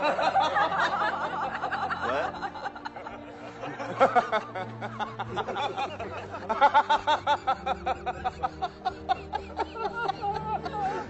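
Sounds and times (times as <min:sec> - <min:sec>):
men laughing: 0:00.0 - 0:11.0.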